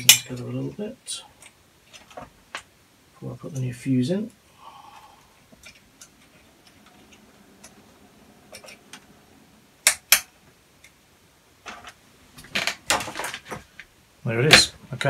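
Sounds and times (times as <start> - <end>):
handling noise: 0.0 - 3.0, 5.0 - 15.0.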